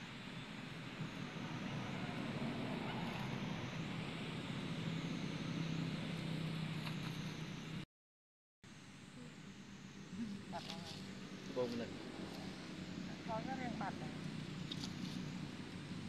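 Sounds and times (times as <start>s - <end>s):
low engine hum: 0.0s - 7.8s, 8.7s - 16.0s.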